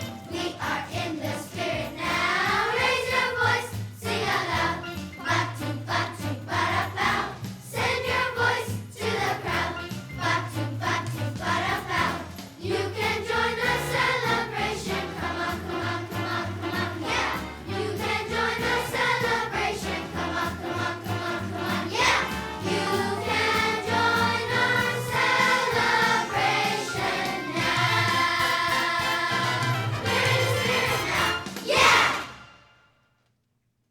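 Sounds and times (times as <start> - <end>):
instrumental accompaniment with beat: 0.0 - 32.5
children's choir singing: 0.0 - 32.7.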